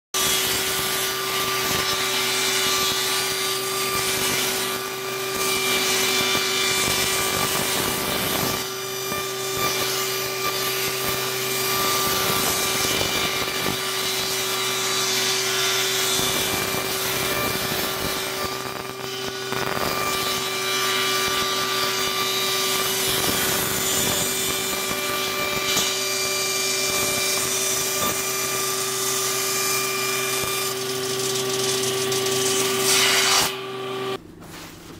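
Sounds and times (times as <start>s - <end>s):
table saw cutting wood: 0.2s - 34.2s.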